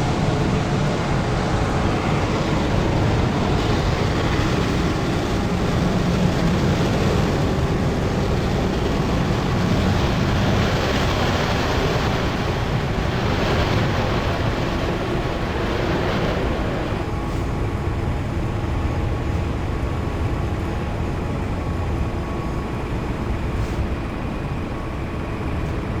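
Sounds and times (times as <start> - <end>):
airliner cabin low rumble: 0.0 - 26.0.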